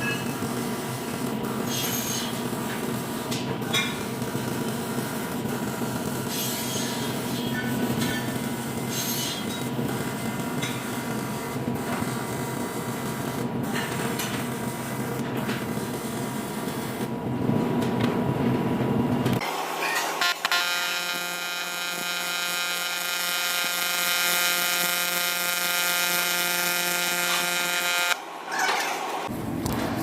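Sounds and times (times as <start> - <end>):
welding arc buzzing: 0.0 - 17.2, 19.4 - 28.4
workshop noise: 0.0 - 30.0.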